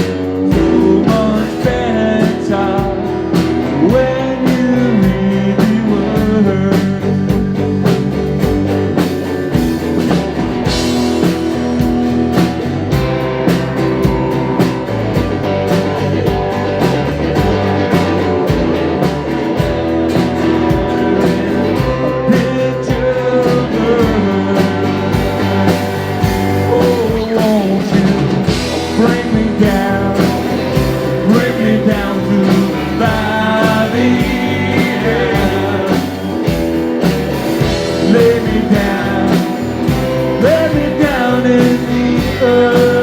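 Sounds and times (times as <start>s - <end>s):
live rock band playing: 0.0s - 43.0s
bending guitar lead notes: 6.4s - 43.0s.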